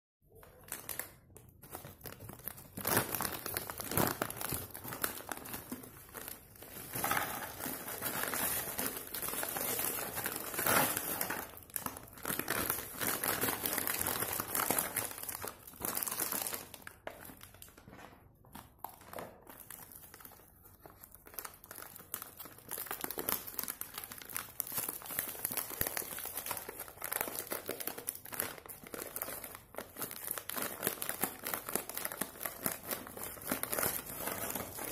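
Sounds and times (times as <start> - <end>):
plastic wrapper crackling: 0.3 - 34.9.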